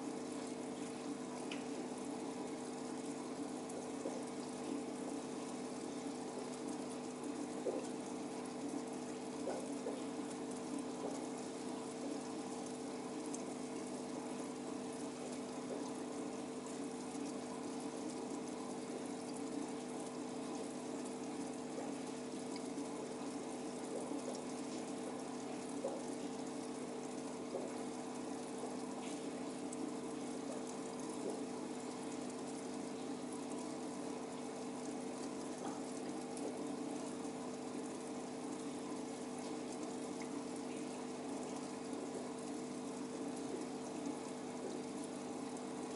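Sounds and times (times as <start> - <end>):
aquarium filter hum: 0.0 - 45.9
bubbling trickling water: 0.0 - 45.9
faint ticks: 0.3 - 45.9.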